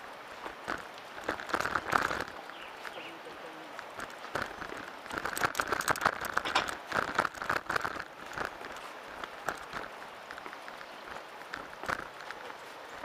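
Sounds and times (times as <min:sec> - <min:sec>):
mountain bike rattling over ground: 0:00.0 - 0:03.2, 0:03.8 - 0:13.0.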